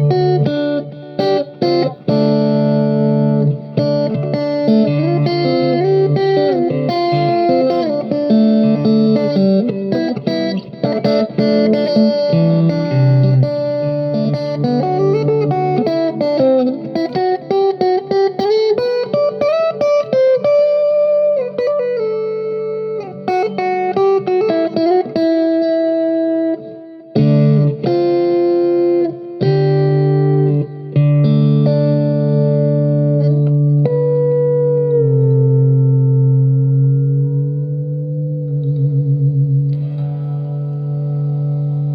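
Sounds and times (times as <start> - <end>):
guitar plucked melody: 0.0 - 41.9.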